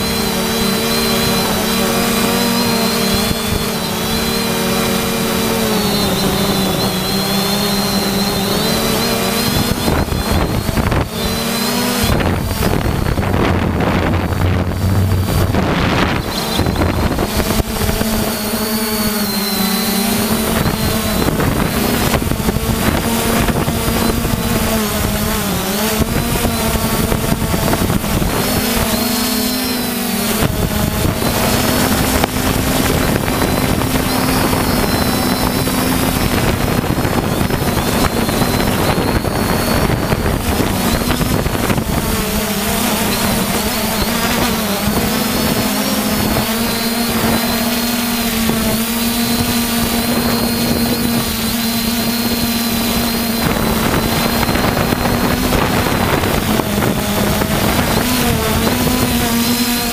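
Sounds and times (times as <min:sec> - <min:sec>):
drone motors and propellers whining: 0:00.0 - 0:59.9.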